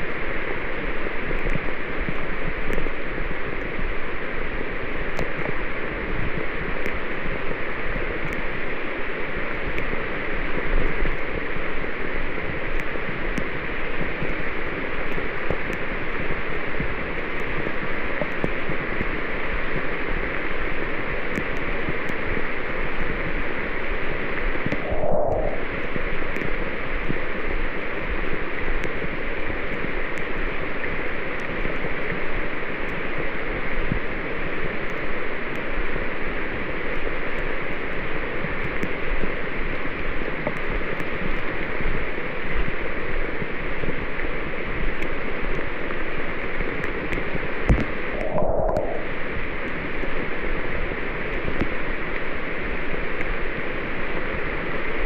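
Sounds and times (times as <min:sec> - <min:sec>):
rain falling on foliage: 0:00.0 - 0:24.8, 0:26.0 - 0:48.2, 0:49.2 - 0:55.0.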